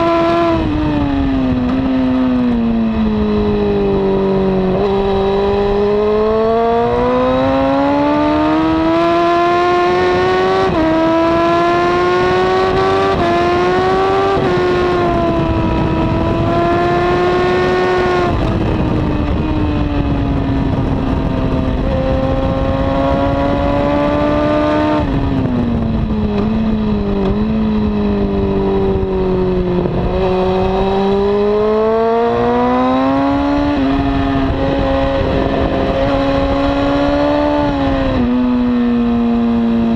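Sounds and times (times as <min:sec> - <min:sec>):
motorcycle engine revving: 0:00.0 - 0:39.9
rushing wind noise: 0:00.0 - 0:39.9.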